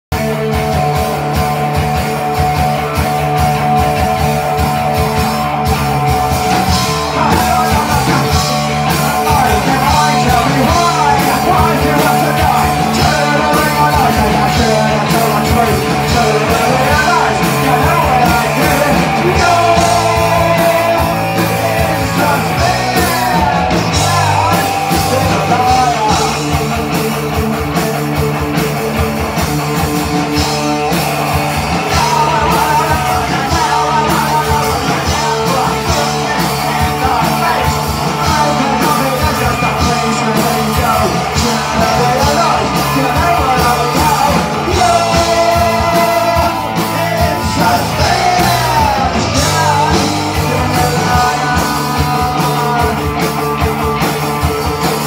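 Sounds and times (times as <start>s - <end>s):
bass guitar: 0.0s - 55.0s
drum kit: 0.1s - 55.0s
electric guitar: 0.1s - 55.0s
man singing punk vocals: 0.1s - 55.0s.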